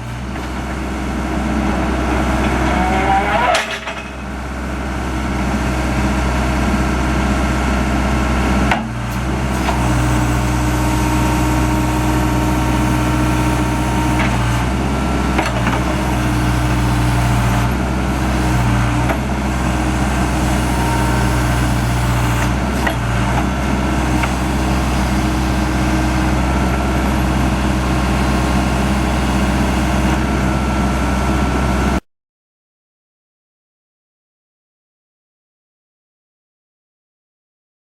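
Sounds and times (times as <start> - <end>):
backhoe loader engine running: 0.0 - 32.0.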